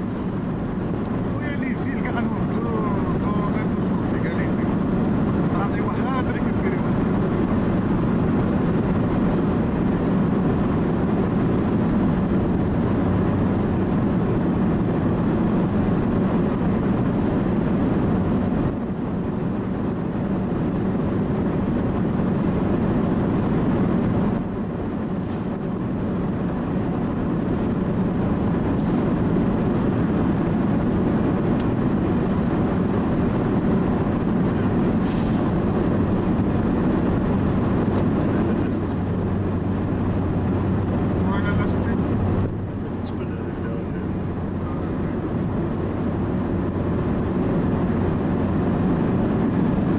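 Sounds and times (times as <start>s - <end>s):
car cabin road and engine rumble: 0.0s - 49.9s.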